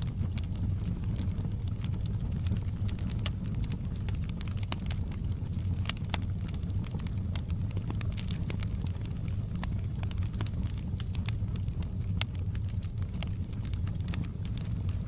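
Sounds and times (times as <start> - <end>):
low rumble of flames: 0.0 - 15.0
wood fire snapping and popping: 0.0 - 15.0.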